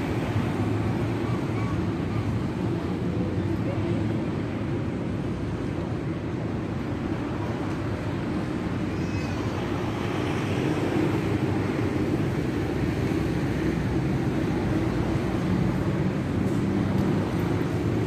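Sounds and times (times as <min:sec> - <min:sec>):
distant engines rumbling: 0:00.0 - 0:18.0.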